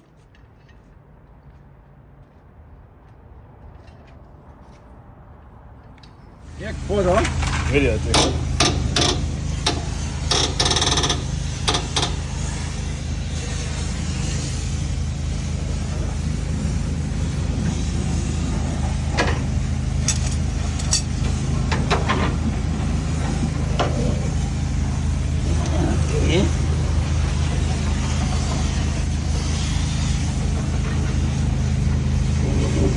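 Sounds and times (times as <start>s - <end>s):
engine idling with low hum: 6.5s - 32.9s.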